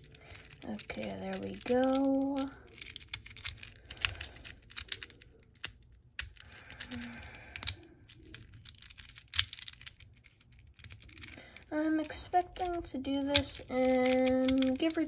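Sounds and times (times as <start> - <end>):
puzzle cube clicking: 0.0 - 15.0.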